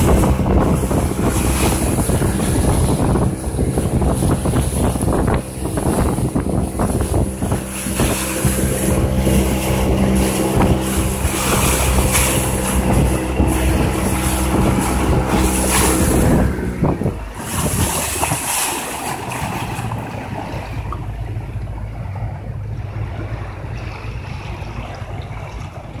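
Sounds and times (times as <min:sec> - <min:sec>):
motorboat engine drone: 0:00.0 - 0:26.0
water splashing against hull: 0:00.0 - 0:26.0
wind buffeting microphone: 0:00.0 - 0:26.0.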